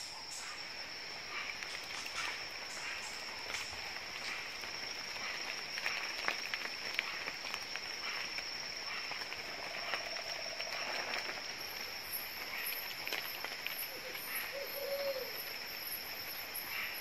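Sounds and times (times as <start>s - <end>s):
insects droning high-pitched: 0.0s - 17.0s.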